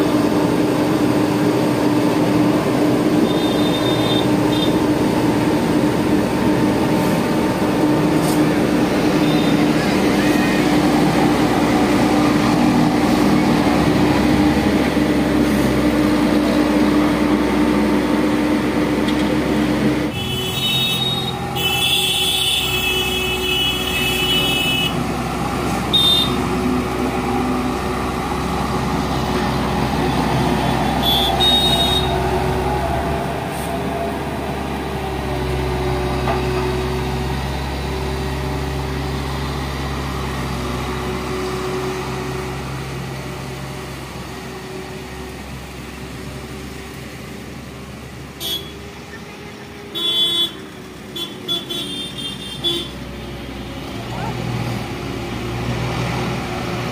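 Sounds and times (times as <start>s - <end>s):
roller diesel engine running: 0.0s - 56.9s.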